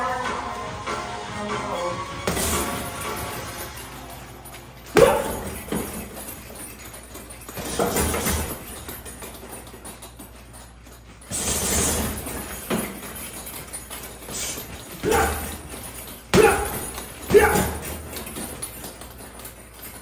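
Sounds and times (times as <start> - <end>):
boxing gloves punching heavy bag: 2.2 - 20.0.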